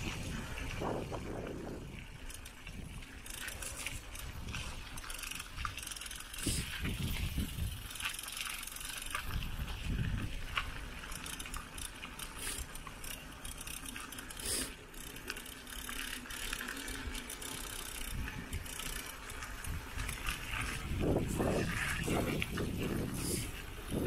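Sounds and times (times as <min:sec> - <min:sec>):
mountain bike rattling: 0:00.0 - 0:24.0.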